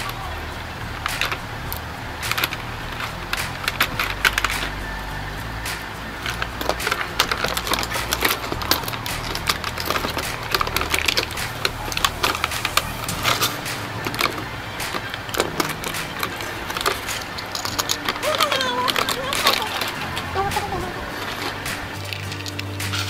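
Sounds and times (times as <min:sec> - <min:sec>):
plastic toy track clattering: 0:00.0 - 0:05.1, 0:05.7 - 0:23.0
plastic packaging crackling: 0:00.0 - 0:23.0.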